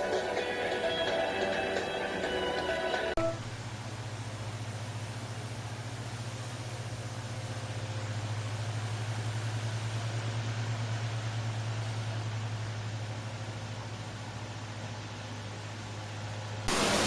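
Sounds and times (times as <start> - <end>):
faint hiss: 3.2 - 17.0.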